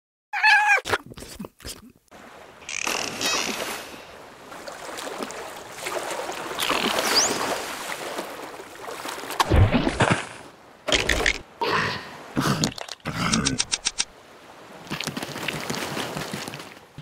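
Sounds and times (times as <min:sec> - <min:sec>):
ocean waves on beach: 0:02.1 - 0:12.4, 0:13.6 - 0:17.0.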